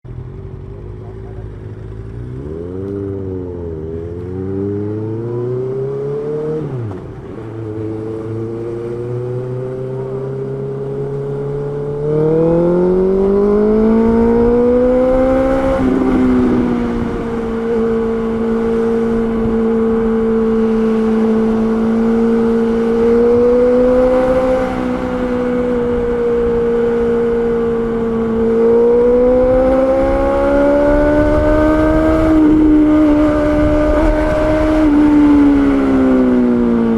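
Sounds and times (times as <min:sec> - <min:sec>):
motorcycle engine under way: 0:00.0 - 0:36.9.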